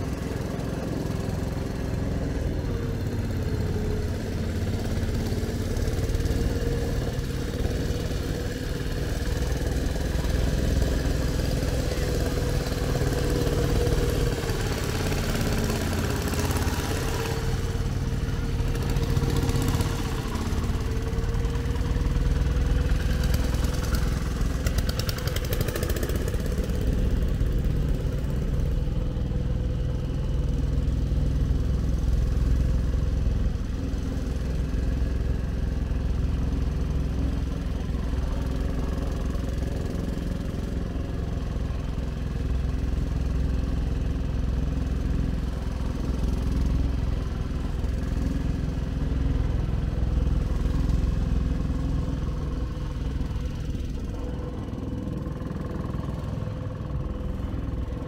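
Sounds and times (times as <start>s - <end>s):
ferry engine droning: 0.0s - 58.0s.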